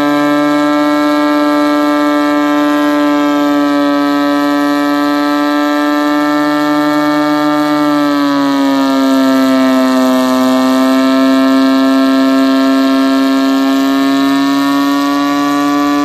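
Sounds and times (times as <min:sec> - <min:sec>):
rotary engine running under load: 0:00.0 - 0:16.0.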